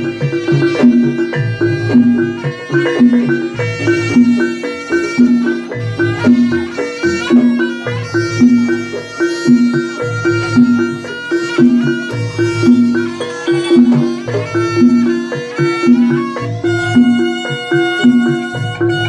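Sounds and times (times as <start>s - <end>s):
low pitched repeating percussion: 0.0s - 19.0s
reedy wind instrument melody: 0.0s - 19.0s.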